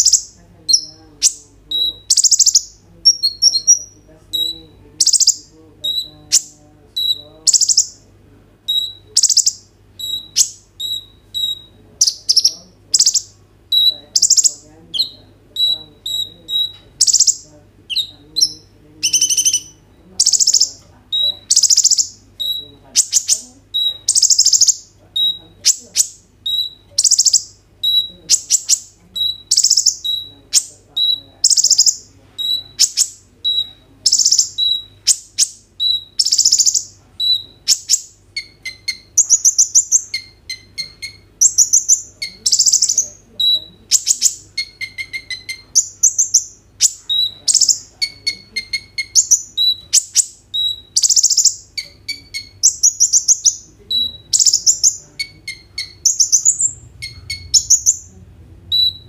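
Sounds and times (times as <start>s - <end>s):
sunbird singing: 0.0s - 59.0s.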